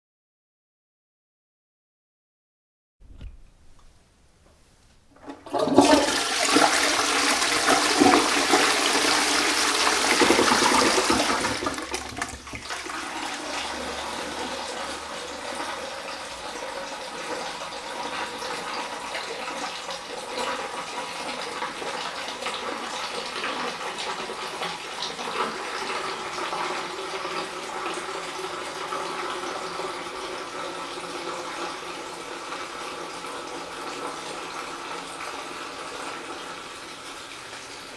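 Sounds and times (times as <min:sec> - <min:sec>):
cistern refilling: 0:05.0 - 0:37.9
toilet flushing: 0:05.1 - 0:37.9.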